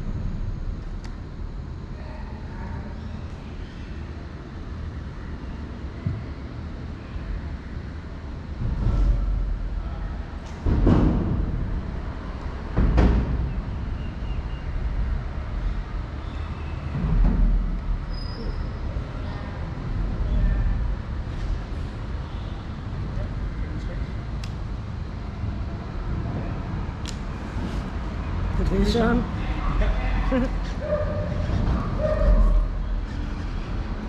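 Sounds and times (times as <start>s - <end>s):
traffic rumble on bridge: 3.1s - 34.0s.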